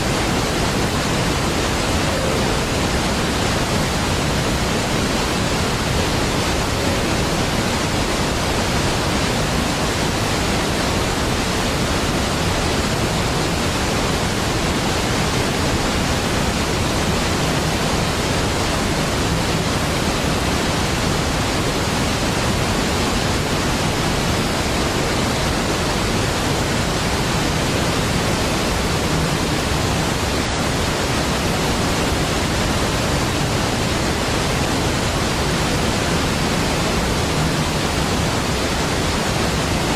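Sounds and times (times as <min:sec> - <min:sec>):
waterfall deep rush: 0:00.0 - 0:39.9.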